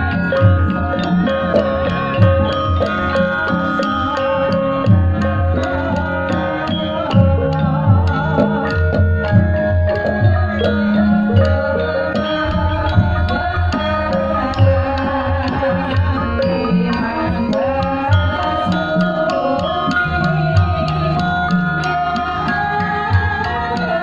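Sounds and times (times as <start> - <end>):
hand drum strokes: 0.0 - 24.0
ringing metallophone tones: 0.0 - 24.0.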